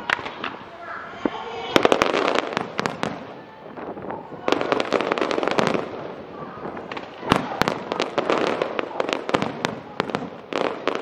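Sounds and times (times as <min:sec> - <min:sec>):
fireworks crackling: 0:00.0 - 0:11.0
firework bang: 0:01.2 - 0:11.0.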